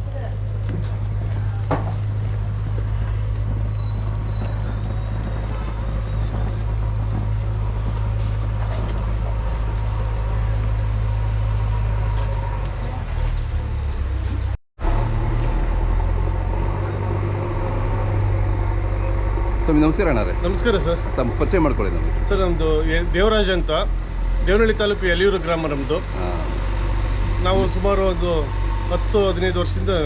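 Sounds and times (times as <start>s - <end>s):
steady low rumble: 0.0s - 29.5s.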